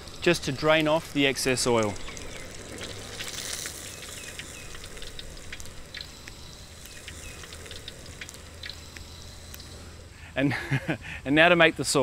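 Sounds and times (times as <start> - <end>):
frying oil crackling and popping: 0.0 - 9.7.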